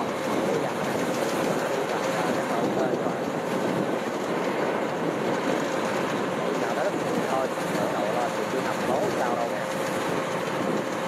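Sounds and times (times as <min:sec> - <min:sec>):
combine harvester clattering: 0:00.0 - 0:11.0.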